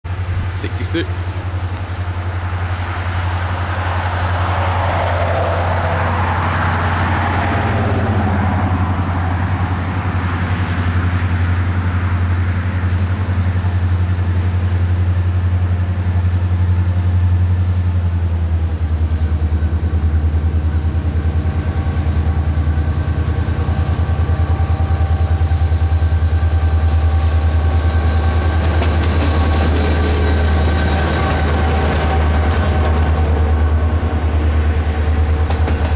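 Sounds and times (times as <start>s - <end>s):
diesel locomotive rumble: 0.1s - 35.9s.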